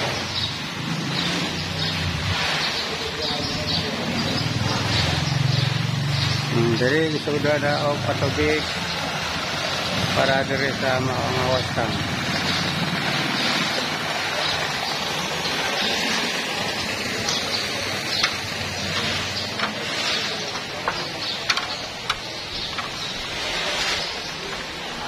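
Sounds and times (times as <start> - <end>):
water running: 0.0 - 25.0.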